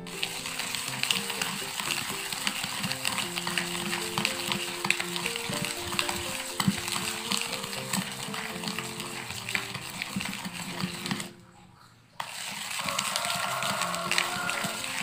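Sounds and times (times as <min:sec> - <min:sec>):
background music with sustained notes: 0:00.0 - 0:11.4, 0:12.9 - 0:15.0.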